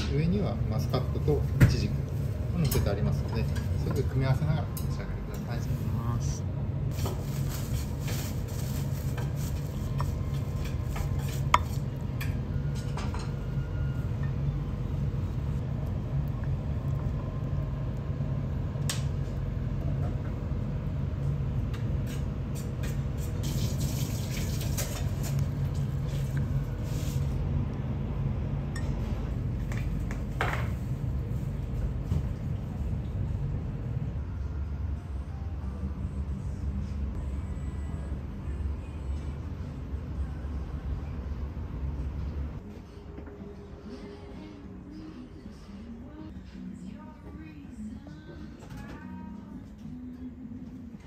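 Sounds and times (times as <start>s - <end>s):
low restaurant hum: 0.0s - 51.0s.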